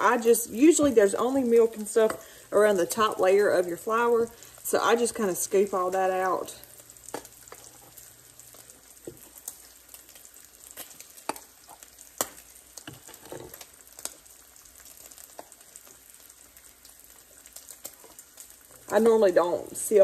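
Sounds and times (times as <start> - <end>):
bacon sizzling and popping: 0.0 - 20.0.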